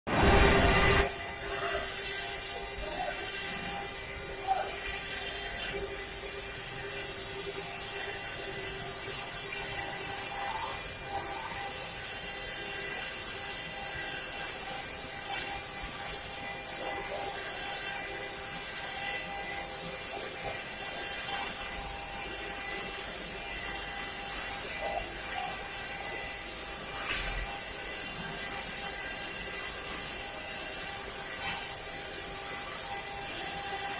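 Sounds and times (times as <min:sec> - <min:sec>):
carving machine spindle whine: 0:00.1 - 0:33.9.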